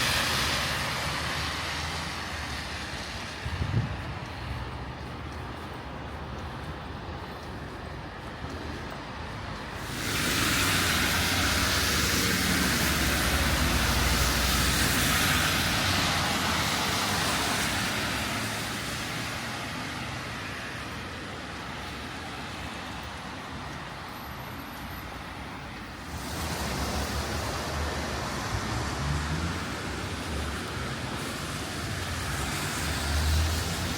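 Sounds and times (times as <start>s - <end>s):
rainy traffic hiss and rumble: 0.0s - 33.9s
tyres hissing on wet road: 0.0s - 33.9s.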